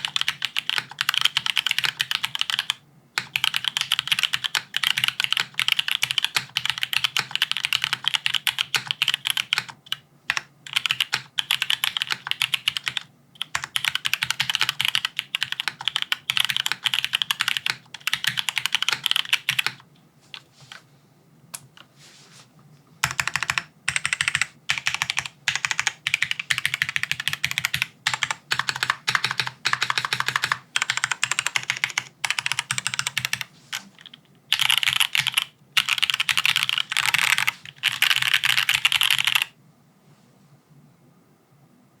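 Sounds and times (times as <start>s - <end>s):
rapid mechanical keyboard typing: 0.0s - 20.4s, 23.0s - 39.5s.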